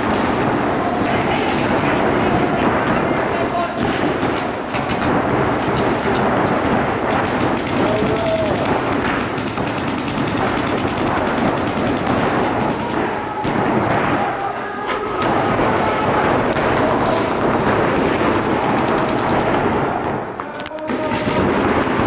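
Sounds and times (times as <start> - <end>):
paintball markers firing: 0.0 - 22.0.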